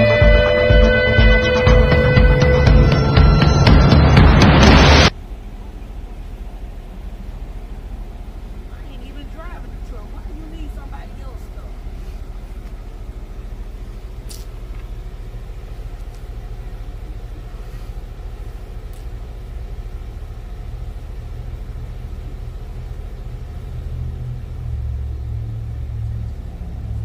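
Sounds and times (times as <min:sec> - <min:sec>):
cars idling: 0:00.0 - 0:27.0.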